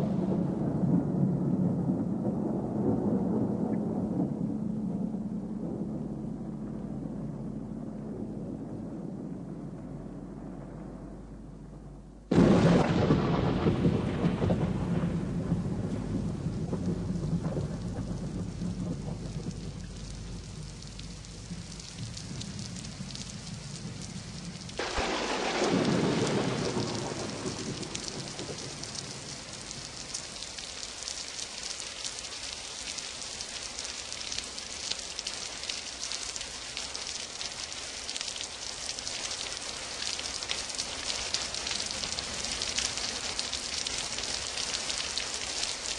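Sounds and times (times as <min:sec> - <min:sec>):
steady rain: 0:00.0 - 0:45.9
thunder rumbling: 0:00.0 - 0:45.9.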